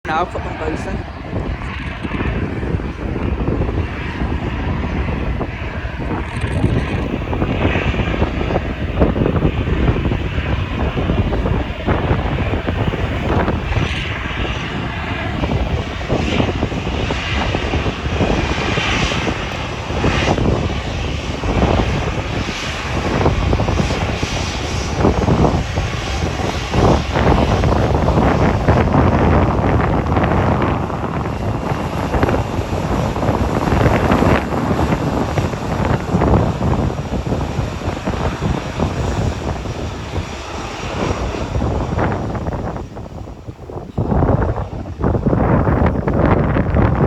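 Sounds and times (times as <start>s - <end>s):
jet engines roaring: 0.0s - 47.0s
wind buffeting microphone: 0.0s - 47.0s.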